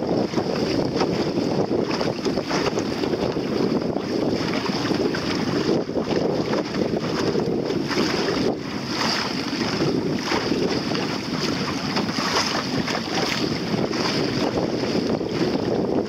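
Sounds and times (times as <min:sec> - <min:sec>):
water slapping boat hull: 0:00.0 - 0:16.0
wind buffeting microphone: 0:00.0 - 0:16.0.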